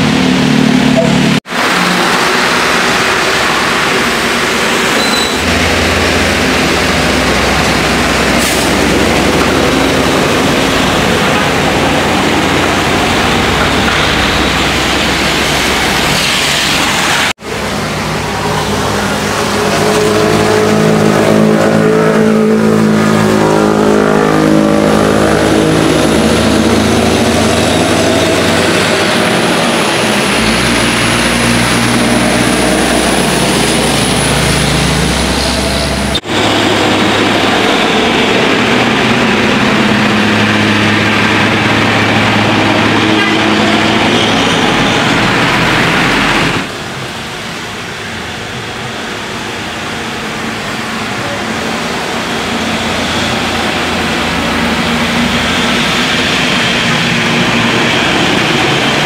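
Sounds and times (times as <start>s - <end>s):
truck engine drone: 0.0s - 59.0s
tyres hissing on wet road: 0.0s - 59.0s.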